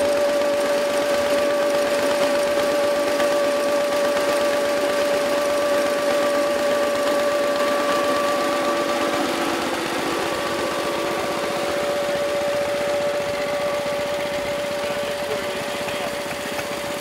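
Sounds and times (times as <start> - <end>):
small petrol engine chattering: 0.0 - 17.0
steady high whine: 0.0 - 17.0.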